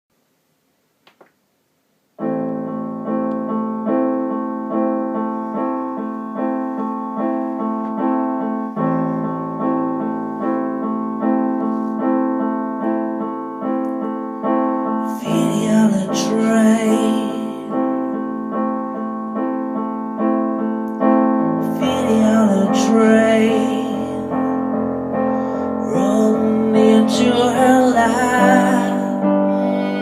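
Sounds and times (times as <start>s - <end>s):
piano chords: 2.2s - 30.0s.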